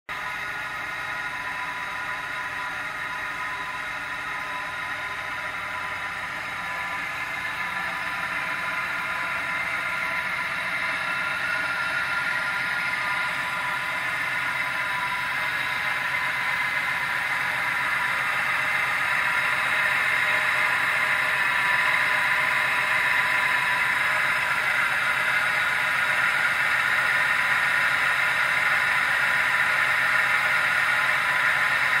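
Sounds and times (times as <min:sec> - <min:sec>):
car engine running: 0:00.1 - 0:32.0
high-pitched whine: 0:00.1 - 0:32.0.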